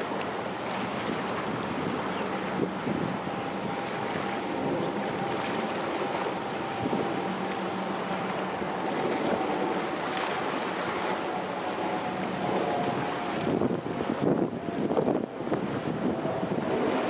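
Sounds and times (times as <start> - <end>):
ferry engine hum: 0.0 - 17.0
rushing water: 0.0 - 17.0
wind: 0.0 - 17.0.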